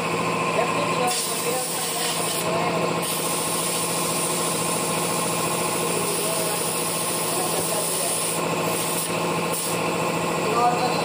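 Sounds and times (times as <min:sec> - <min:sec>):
pneumatic machinery chattering: 0:01.0 - 0:10.2.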